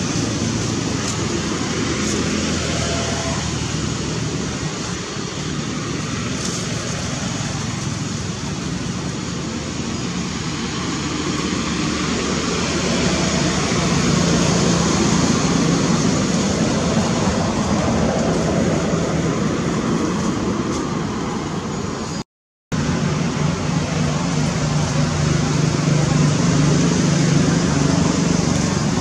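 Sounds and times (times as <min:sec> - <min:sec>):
steady rumbling noise: 0:00.0 - 0:29.0.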